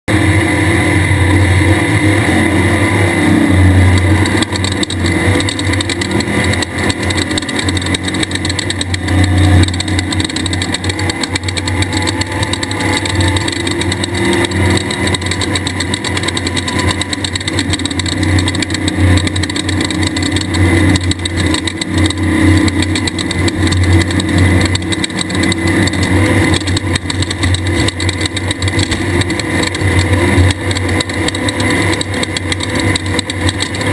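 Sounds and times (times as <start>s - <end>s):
race car engine revving: 0.1s - 33.9s.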